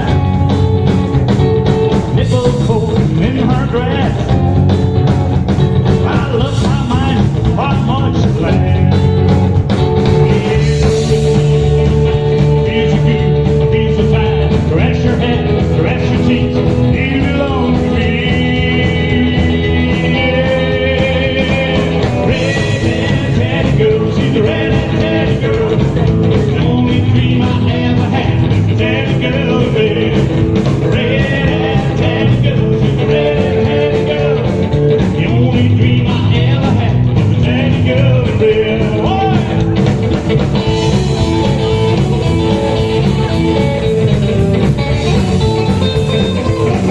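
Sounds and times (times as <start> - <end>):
bass guitar: 0.0 - 46.9
drums on a steady beat: 0.0 - 46.9
electric guitar: 0.0 - 46.9
live rock band playing: 0.0 - 46.9
person singing: 1.9 - 4.4, 5.9 - 9.2, 10.0 - 46.9.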